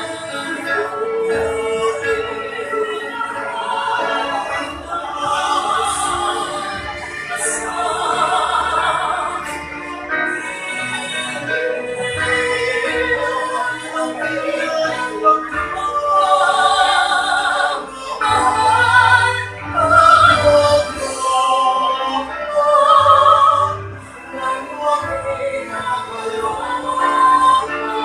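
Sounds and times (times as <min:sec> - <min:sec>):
mixed vocal quartet singing in harmony: 0:00.0 - 0:28.0.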